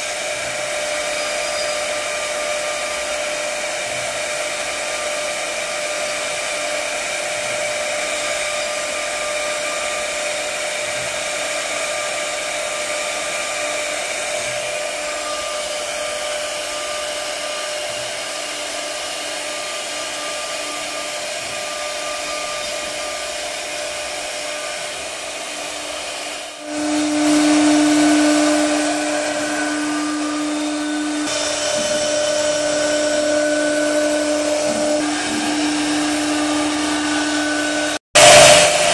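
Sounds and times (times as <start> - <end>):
spindle cutting wood: 0.0 - 38.0
router spindle whine: 0.0 - 38.9.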